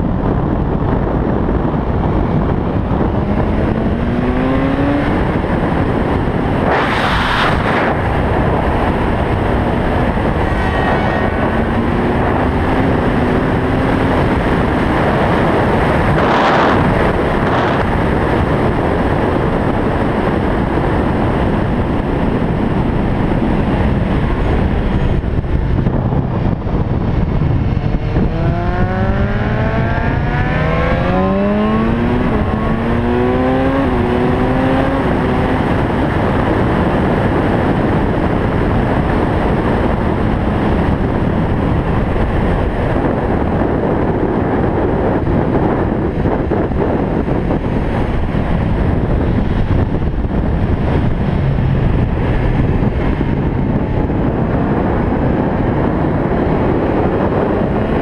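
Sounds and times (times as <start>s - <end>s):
motorcycle engine accelerating: 0.0s - 58.0s
wind rush on microphone: 0.0s - 58.0s.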